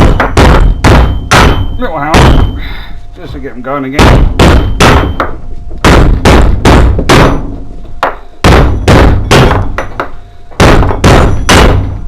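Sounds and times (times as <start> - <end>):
hammer striking metal: 0.0 - 2.6, 4.0 - 12.0.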